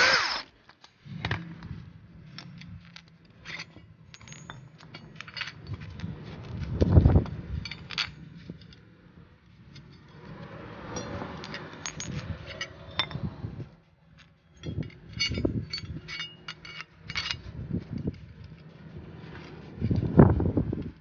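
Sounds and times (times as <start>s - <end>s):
metal parts clinking on concrete: 0.0s - 20.1s.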